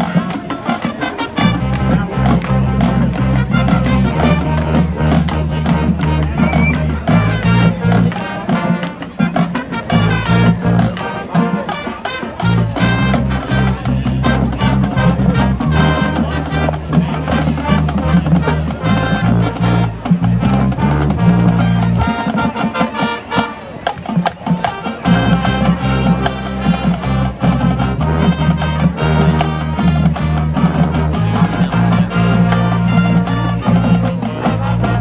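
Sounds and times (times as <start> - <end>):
steady drum beat: 0.0 - 23.0, 23.9 - 35.0
marching band low brass: 0.0 - 35.0.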